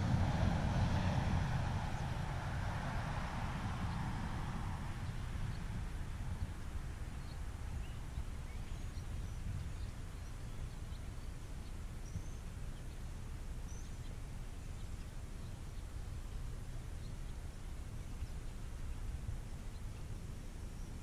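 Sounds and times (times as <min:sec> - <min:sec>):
low outdoor wind rumble: 0:00.0 - 0:21.0.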